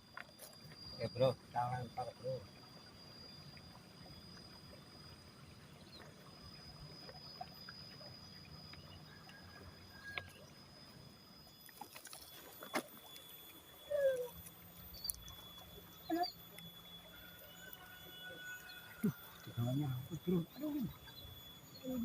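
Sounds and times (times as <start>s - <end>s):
faint high-pitched insect drone: 0.0s - 22.0s
low hum: 0.0s - 22.0s.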